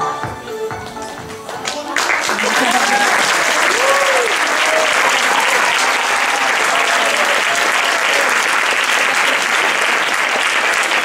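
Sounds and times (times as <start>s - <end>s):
audience applauding: 1.5s - 11.0s.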